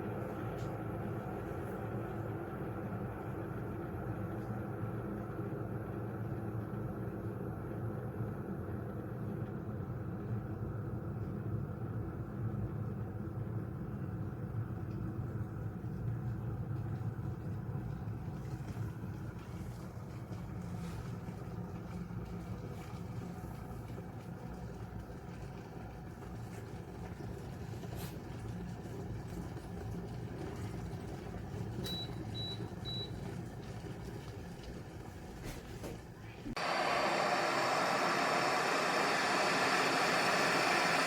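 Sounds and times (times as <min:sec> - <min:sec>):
kettle heating water rumble: 0:00.0 - 0:41.0.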